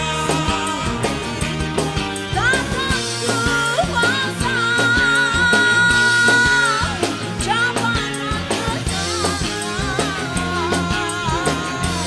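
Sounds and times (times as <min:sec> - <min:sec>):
live band playing: 0:00.0 - 0:12.0
woman singing: 0:00.0 - 0:12.0.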